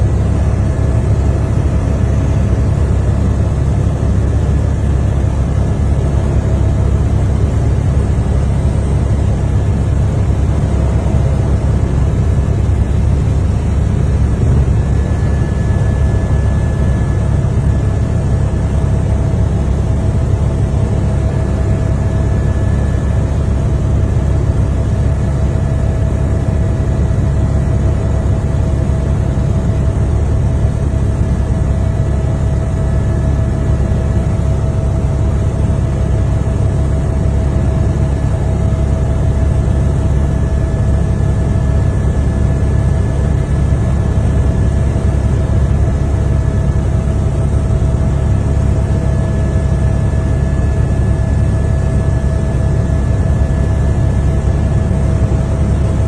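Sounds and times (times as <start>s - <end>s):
aircraft engine rumble: 0.0s - 56.0s
faint hum: 0.0s - 56.0s.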